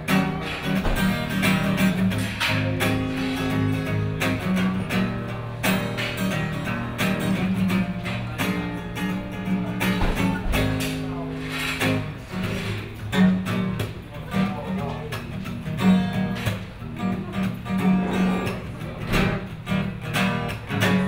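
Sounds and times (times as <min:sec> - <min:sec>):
acoustic guitar strummed and picked: 0:00.0 - 0:21.0.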